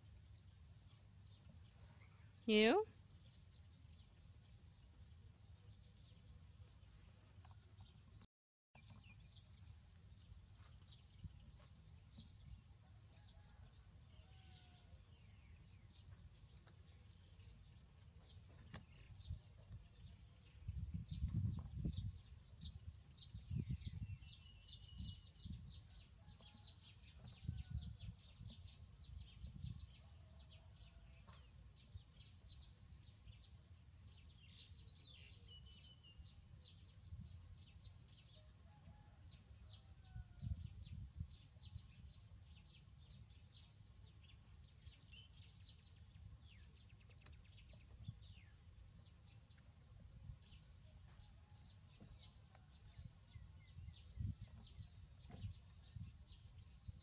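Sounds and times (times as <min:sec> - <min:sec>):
small birds chirping: 0:08.8 - 0:57.0.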